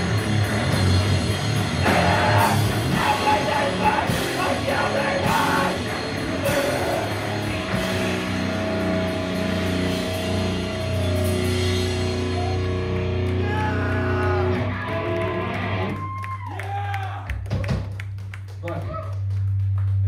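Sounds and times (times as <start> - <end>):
rock band playing: 0.0 - 16.4.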